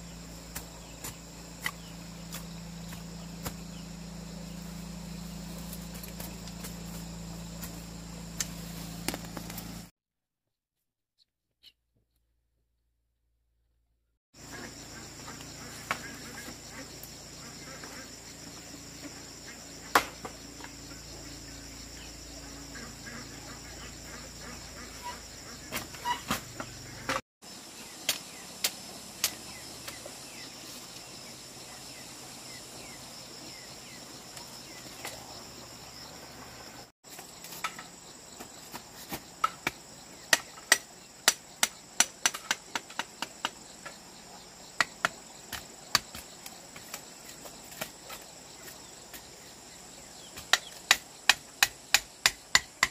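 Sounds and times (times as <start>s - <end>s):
insects chirring: 0.0s - 9.9s, 14.4s - 52.9s.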